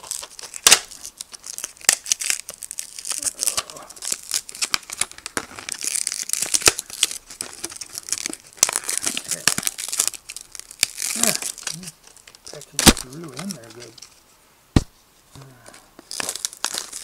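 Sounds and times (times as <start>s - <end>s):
plastic blister packaging crinkling: 0.0s - 14.2s, 15.7s - 17.0s.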